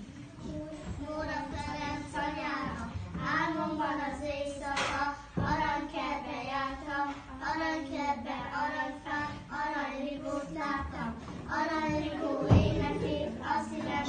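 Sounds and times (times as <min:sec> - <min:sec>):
children singing: 0:00.8 - 0:14.0.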